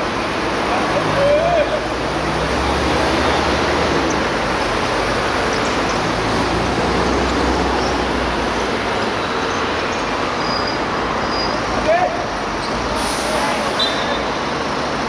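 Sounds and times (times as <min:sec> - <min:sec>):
loud outdoor background roar: 0:00.0 - 0:15.0.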